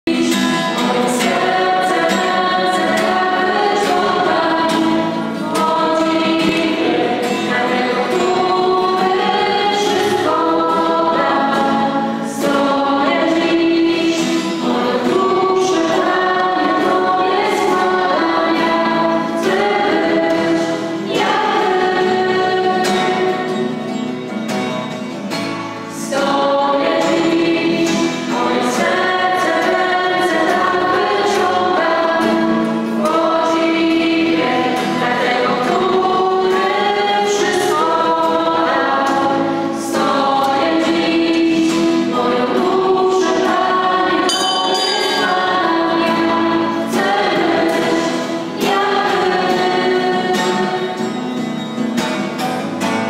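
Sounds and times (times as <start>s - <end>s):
group singing worship song: 0.1s - 23.9s, 25.9s - 51.6s
acoustic guitar strumming: 0.1s - 53.0s.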